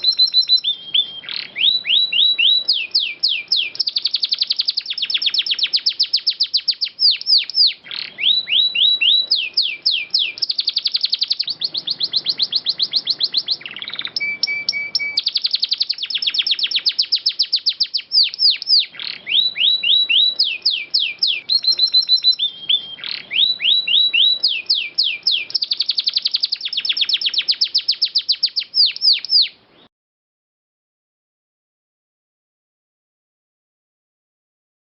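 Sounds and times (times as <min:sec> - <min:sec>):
canary singing trills: 0:00.0 - 0:29.9.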